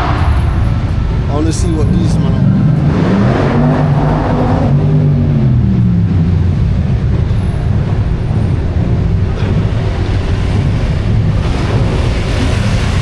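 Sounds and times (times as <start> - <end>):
car engines rumbling: 0.0 - 13.0
wind buffeting microphone: 0.0 - 13.0.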